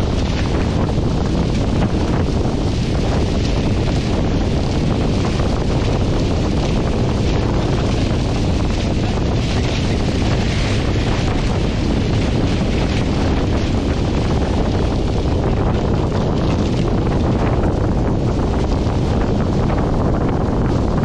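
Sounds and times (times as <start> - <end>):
water rushing off boat hulls: 0.0 - 21.0
wind buffeting microphone: 0.0 - 21.0.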